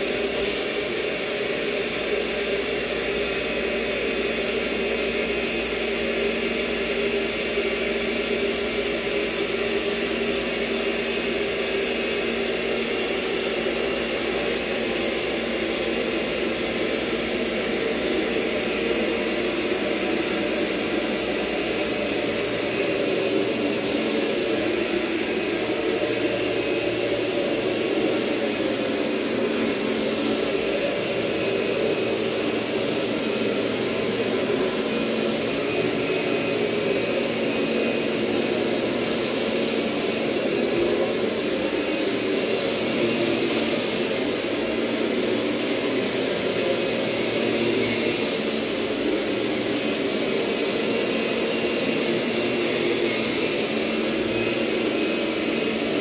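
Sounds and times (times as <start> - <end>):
vacuum cleaner motor whir: 0.0 - 56.0.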